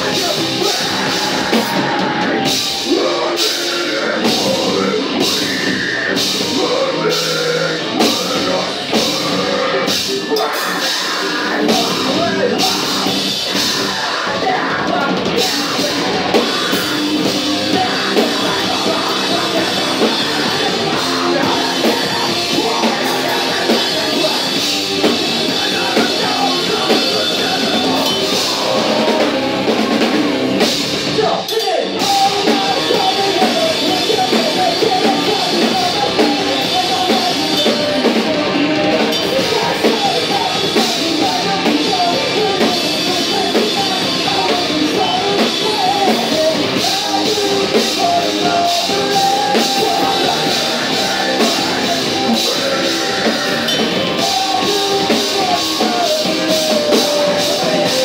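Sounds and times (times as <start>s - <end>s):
bass guitar: 0.0s - 58.0s
drum kit: 0.0s - 58.0s
electric guitars: 0.0s - 58.0s
person singing: 0.0s - 58.0s.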